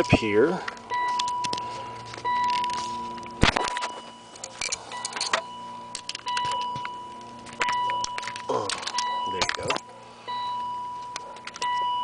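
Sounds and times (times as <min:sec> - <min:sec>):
car warning chime: 0:00.0 - 0:12.0.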